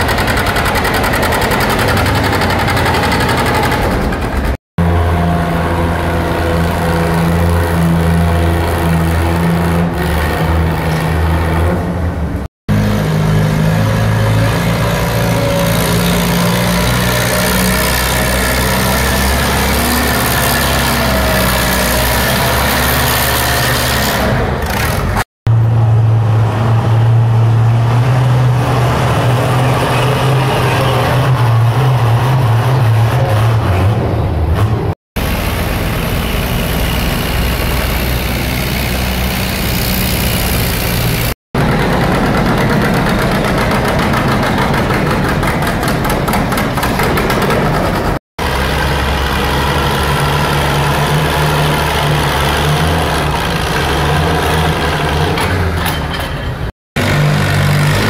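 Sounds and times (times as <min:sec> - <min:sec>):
tractor engines running hard: 0:00.0 - 0:58.0.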